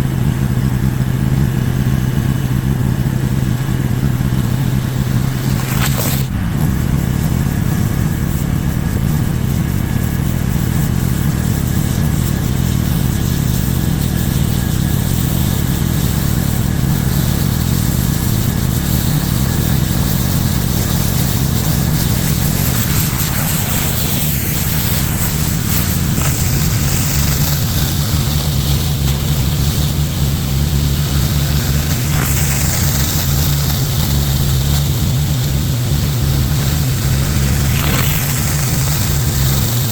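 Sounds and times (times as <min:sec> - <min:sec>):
high-pressure water spray hissing: 0:00.0 - 0:39.9
pressure washer engine running: 0:00.0 - 0:39.9.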